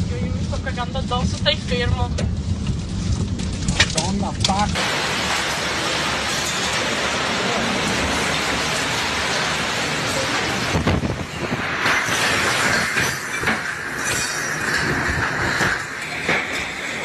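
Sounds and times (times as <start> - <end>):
tornado wind rushing: 0.0 - 17.0.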